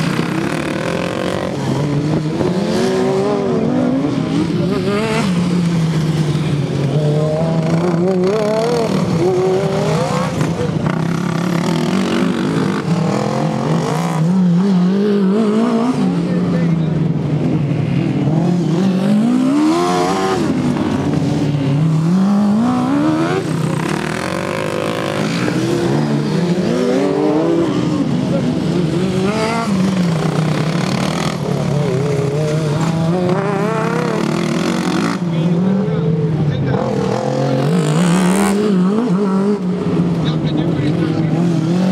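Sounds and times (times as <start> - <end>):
racing lawn mower engines: 0.0 - 41.9.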